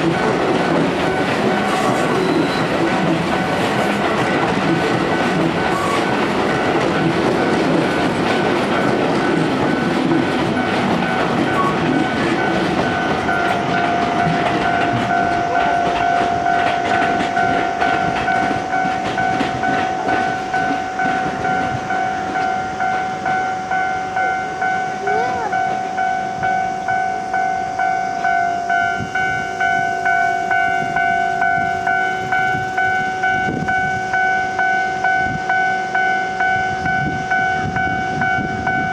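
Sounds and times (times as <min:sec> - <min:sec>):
level crossing warning bell: 0:00.0 - 0:38.9
train rumbling with wheel clatter: 0:00.0 - 0:38.9.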